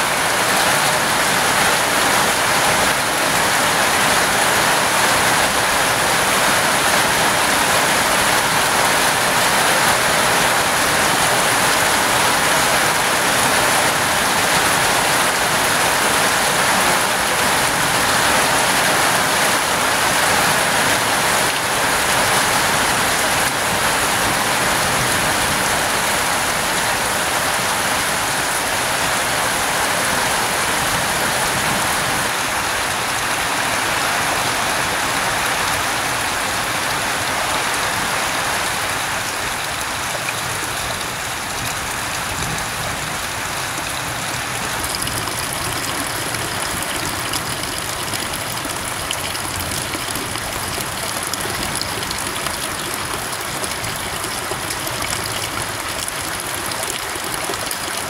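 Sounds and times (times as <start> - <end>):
heavy rain pouring: 0.0 - 58.0
water streaming off a roof: 0.0 - 58.0.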